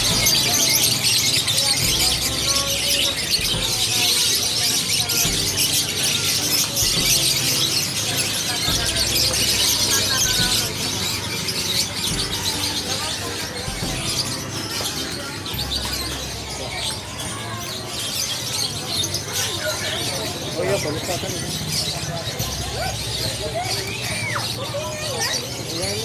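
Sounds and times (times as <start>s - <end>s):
caged songbirds chirping: 0.0s - 26.0s
people talking: 0.0s - 26.0s.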